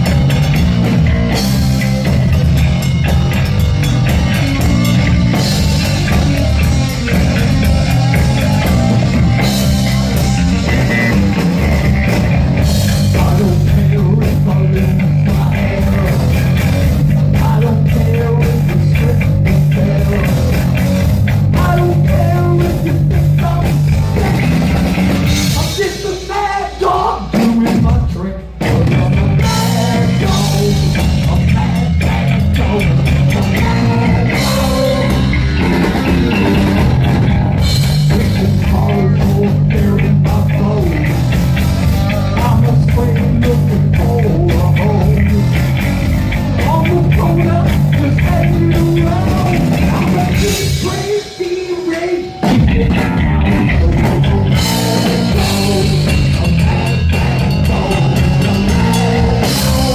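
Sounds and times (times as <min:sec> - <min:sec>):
heavy metal band playing live: 0:00.0 - 0:59.9
pounding drum kit: 0:00.0 - 0:59.9.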